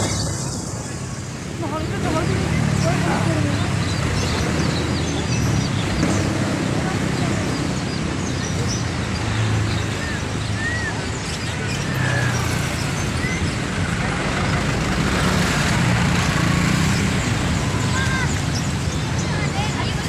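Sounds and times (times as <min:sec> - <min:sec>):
motorbikes passing: 0:00.0 - 0:20.0
road noise: 0:00.0 - 0:20.0
trucks passing: 0:00.0 - 0:20.0.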